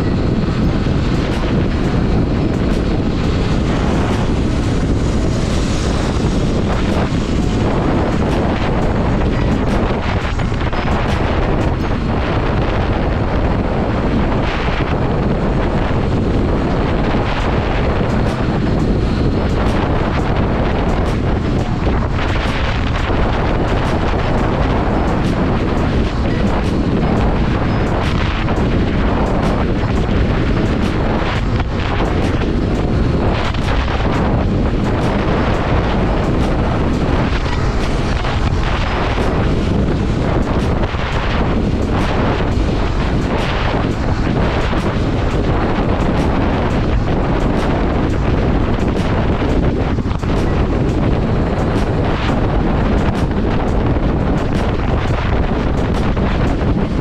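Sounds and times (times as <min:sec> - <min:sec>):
motorcycle riding noise: 0:00.0 - 0:57.0
wind buffeting microphone: 0:00.0 - 0:57.0.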